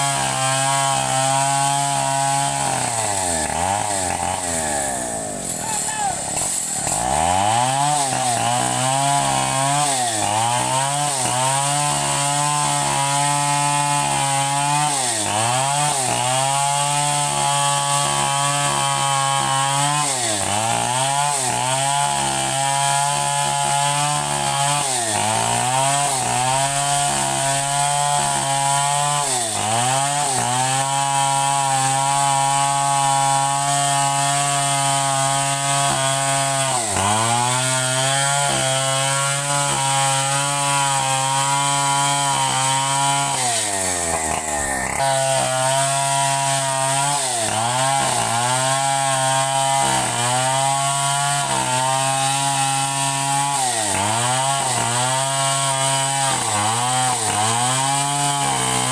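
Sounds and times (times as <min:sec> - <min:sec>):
chainsaw cutting wood: 0:00.0 - 0:58.9.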